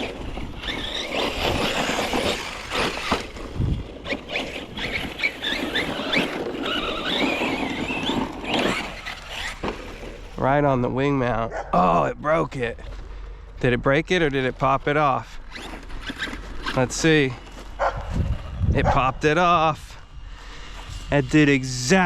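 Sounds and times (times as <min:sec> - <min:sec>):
rc car motor whine: 0:00.0 - 0:10.6, 0:14.3 - 0:22.0
tyre and dirt noise: 0:00.0 - 0:22.0.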